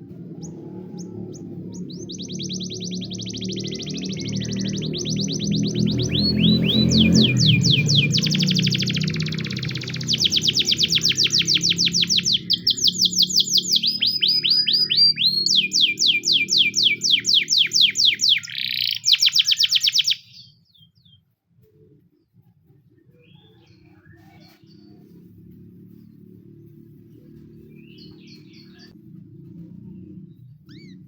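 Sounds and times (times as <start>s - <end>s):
canary singing: 0.0s - 21.2s, 23.2s - 31.0s.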